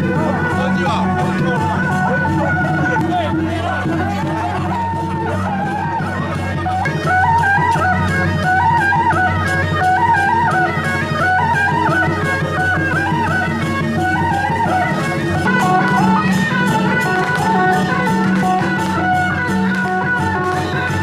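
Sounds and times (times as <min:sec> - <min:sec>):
instrumental melody: 0:00.0 - 0:21.0.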